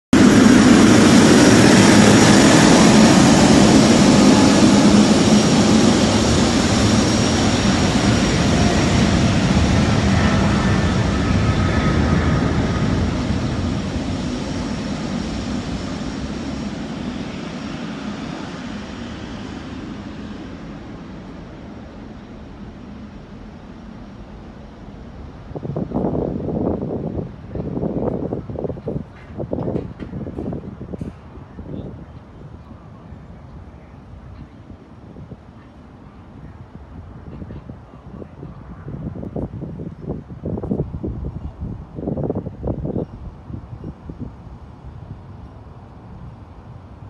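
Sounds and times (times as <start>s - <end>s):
jet engines rumbling and whining: 0.1s - 47.0s.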